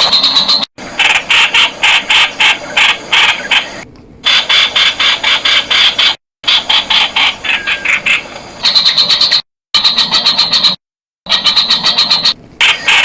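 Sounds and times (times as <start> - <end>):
bird calling harsh notes: 0.0 - 13.0.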